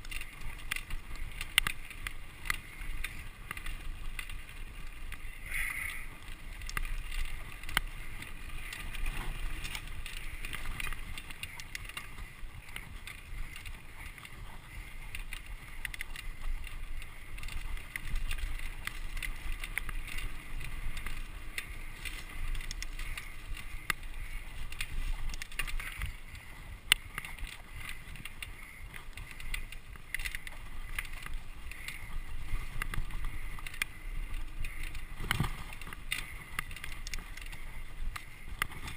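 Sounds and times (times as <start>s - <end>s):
bike rattling and knocking: 0.0s - 38.9s
bike tyres rolling on dirt: 0.0s - 38.9s.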